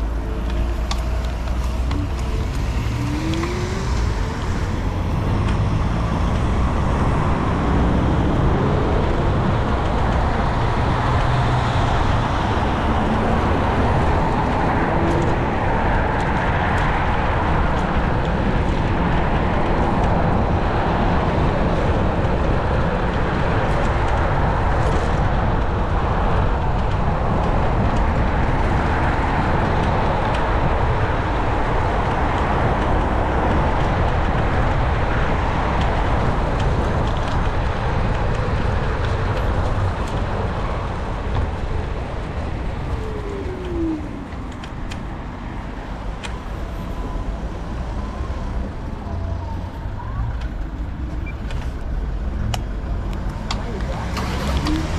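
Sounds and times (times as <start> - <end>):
wind rushing: 1.0 - 51.0.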